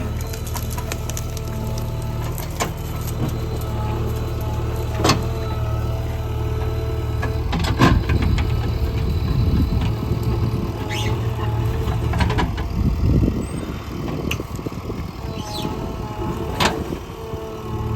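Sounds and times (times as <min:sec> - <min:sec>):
backhoe diesel engine running: 0:00.0 - 0:17.9.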